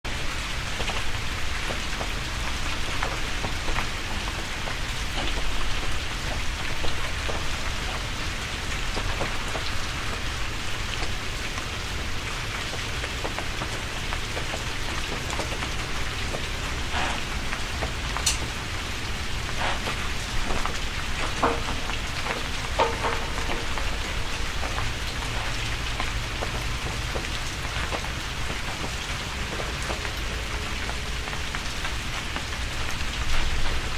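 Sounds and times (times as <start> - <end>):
rain falling: 0.1 - 33.9
sharp drips and clicks: 0.1 - 33.9.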